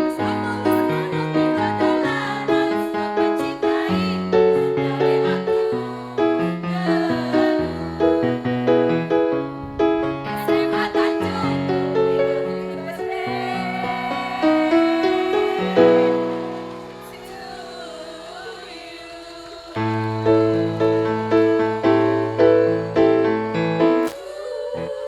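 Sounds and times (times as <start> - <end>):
women's choir singing: 0.0 - 9.4, 10.2 - 25.0
keyboard chords: 0.0 - 24.2.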